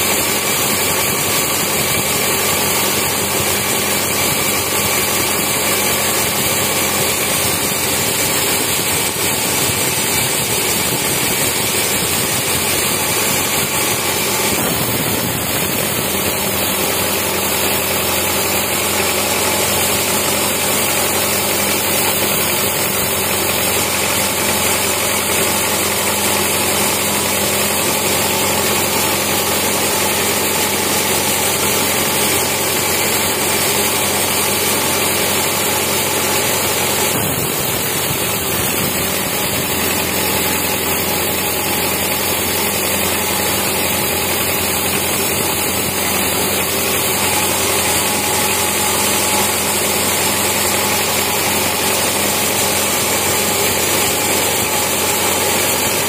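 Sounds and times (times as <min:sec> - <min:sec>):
band saw cutting through log: 0:00.0 - 0:56.0.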